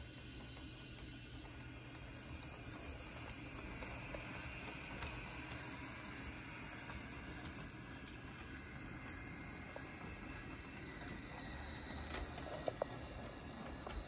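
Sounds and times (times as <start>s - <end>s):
model train motor whine: 0.0s - 14.0s
wheels hissing on rail: 0.0s - 14.0s.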